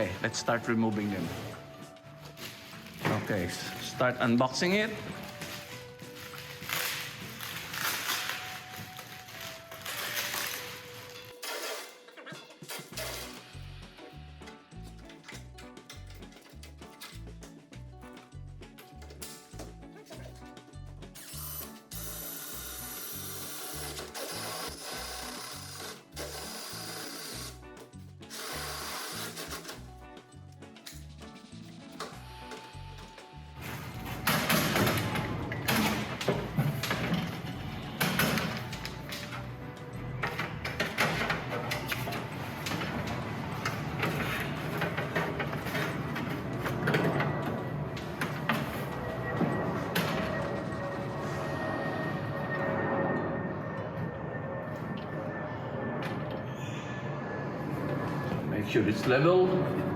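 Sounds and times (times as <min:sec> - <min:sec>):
background music with beat: 0:00.0 - 0:51.6.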